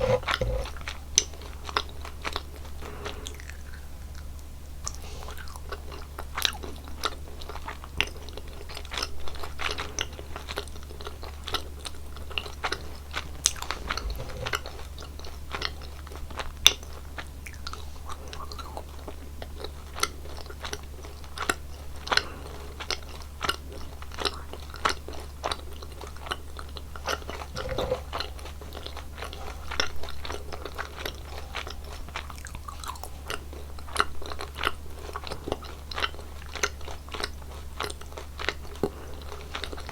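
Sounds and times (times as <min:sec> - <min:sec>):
chewing gummy candies: 0:00.0 - 0:39.9.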